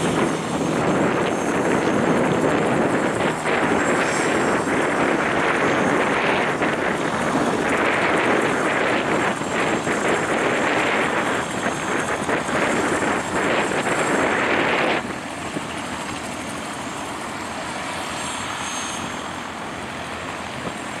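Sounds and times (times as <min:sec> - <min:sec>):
small plane engine drone: 0:00.0 - 0:21.0.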